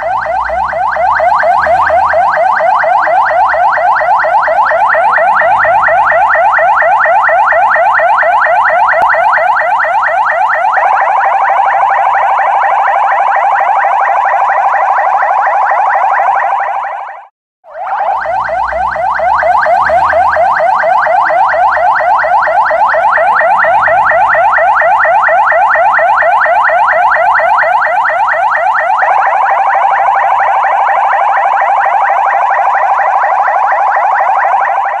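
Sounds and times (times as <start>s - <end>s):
electronic siren: 0.0s - 35.0s.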